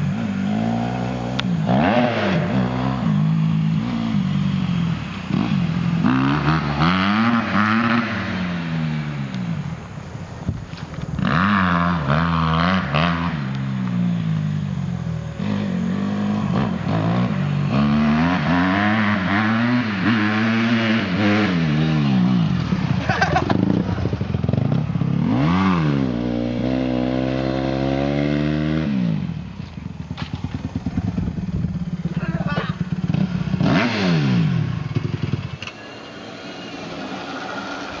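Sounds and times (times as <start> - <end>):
dirt bike engine revving: 0.0 - 9.9, 11.1 - 38.0.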